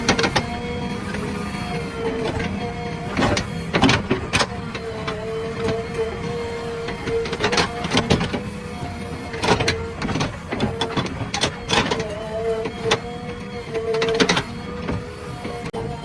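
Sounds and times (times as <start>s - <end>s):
machine whine: 0.0s - 16.0s.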